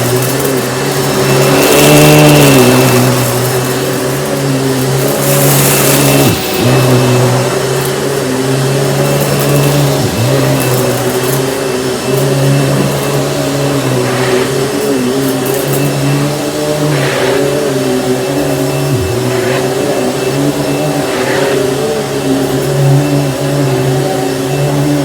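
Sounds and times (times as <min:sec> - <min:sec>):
hissing airflow: 0:00.0 - 0:25.0
vacuum cleaner humming: 0:00.0 - 0:25.0.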